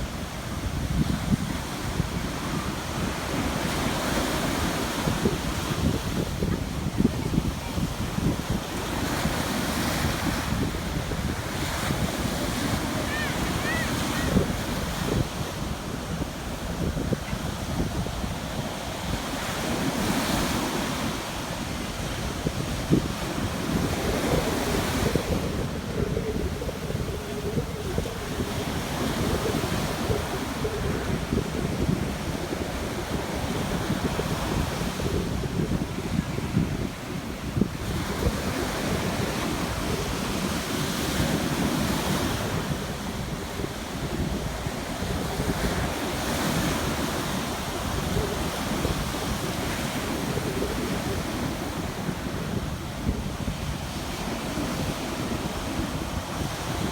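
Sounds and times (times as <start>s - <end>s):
sea waves washing ashore: 0.0s - 56.9s
wind buffeting microphone: 0.0s - 56.9s.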